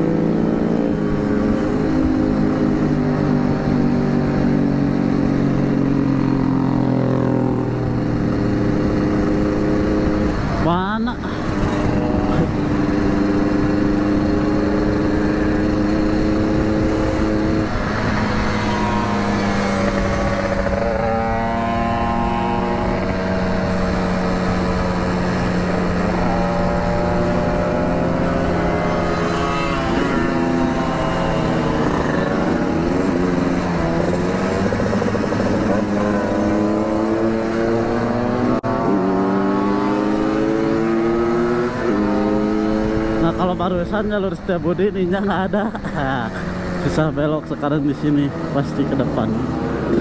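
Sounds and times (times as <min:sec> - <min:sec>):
motorcycle engine accelerating: 0:00.0 - 0:50.0.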